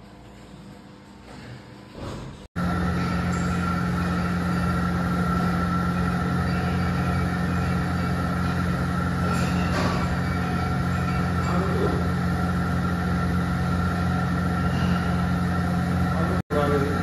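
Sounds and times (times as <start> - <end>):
machine drone: 1.2 - 17.0.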